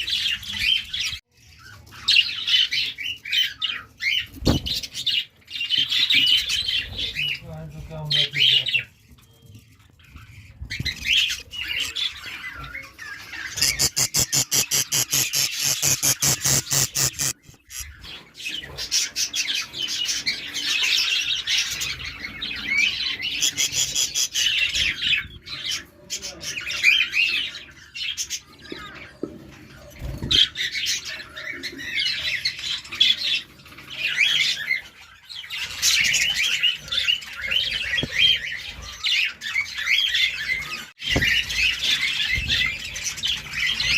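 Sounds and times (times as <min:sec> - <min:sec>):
budgerigars chattering and squawking: 0:00.0 - 0:43.9.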